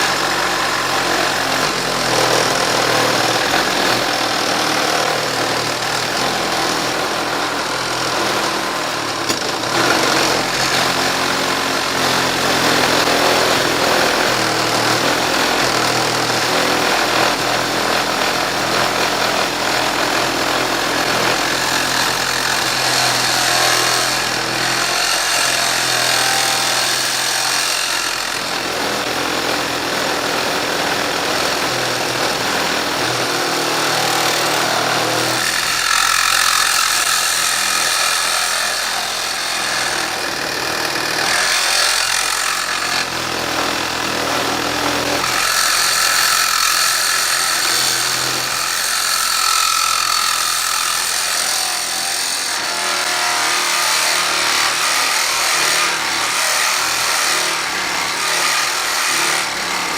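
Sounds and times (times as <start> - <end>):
reciprocating saw cutting metal: 0.0 - 59.9.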